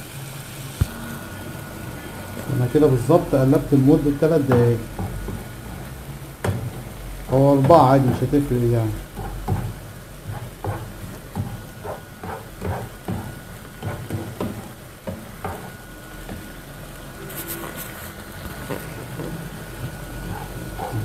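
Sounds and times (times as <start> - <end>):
food sizzling: 0.0 - 21.0
spatula scraping frying pan: 2.4 - 21.0.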